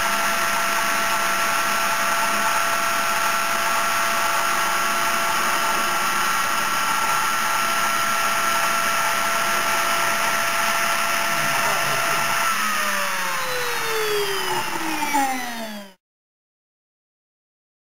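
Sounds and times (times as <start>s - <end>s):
router spindle whine milling wood: 0.0s - 16.0s.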